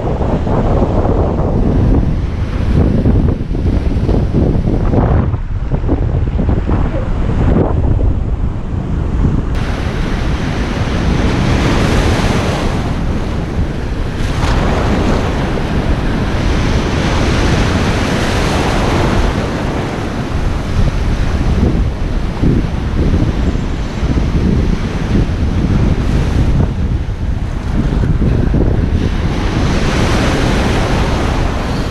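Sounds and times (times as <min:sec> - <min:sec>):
ocean surf washing onto beach: 0:00.0 - 0:31.9
wind buffeting microphone: 0:00.0 - 0:31.9.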